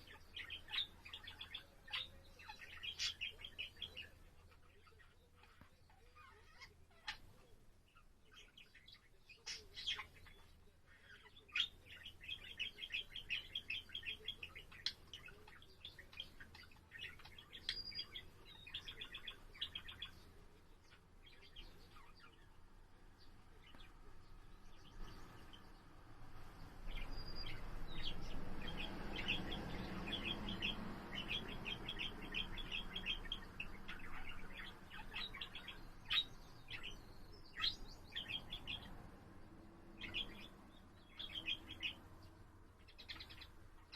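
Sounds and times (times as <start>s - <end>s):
budgerigar chirping and trilling: 0.0s - 20.2s, 26.9s - 39.0s, 40.0s - 42.1s, 42.8s - 43.9s.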